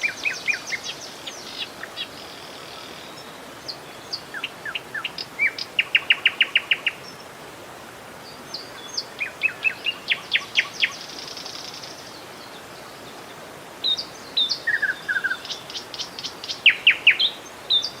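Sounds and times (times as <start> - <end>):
river water flowing: 0.0 - 18.0
songbirds chirping: 0.0 - 18.0.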